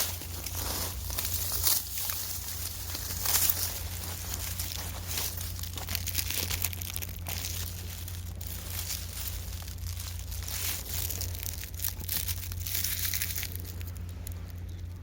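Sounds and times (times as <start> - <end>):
crinkling and rustling: 0.0 - 15.0
steady low hum: 0.0 - 15.0.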